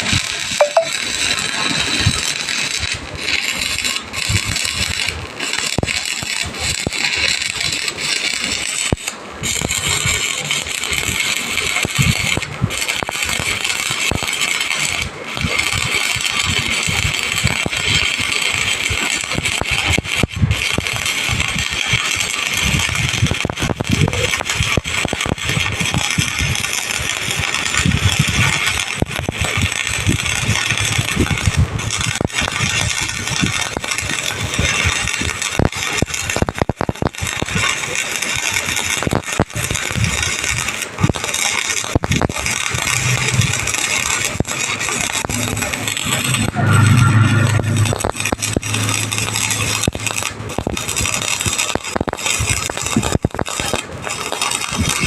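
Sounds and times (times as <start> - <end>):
arc welding crackling hiss: 0.0 - 55.0.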